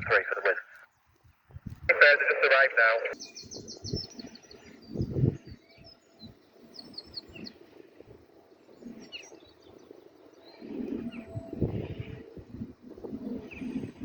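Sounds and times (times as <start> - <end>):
outdoor background noise: 0.0 - 14.0
small birds chirping: 0.2 - 14.0.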